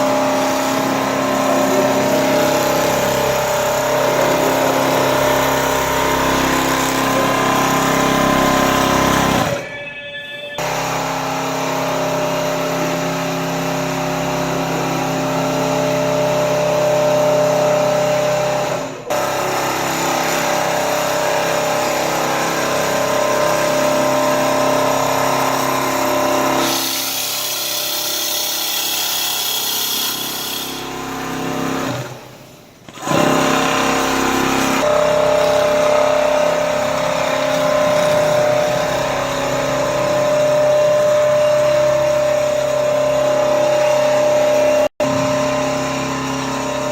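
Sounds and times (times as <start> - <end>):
quilting machine stitching: 0.0 - 9.6, 10.6 - 46.9.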